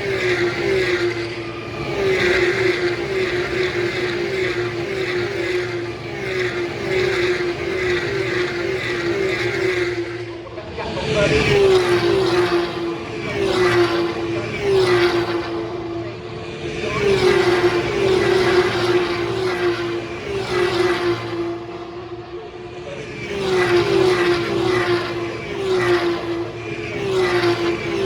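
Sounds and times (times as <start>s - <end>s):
racing cars passing by: 0.0s - 28.0s.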